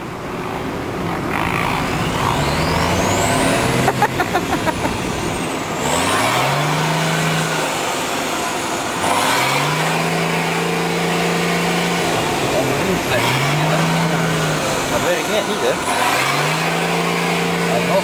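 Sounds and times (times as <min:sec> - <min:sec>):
thin rising whine: 0:00.0 - 0:18.0
off-road engine revving: 0:00.3 - 0:18.0.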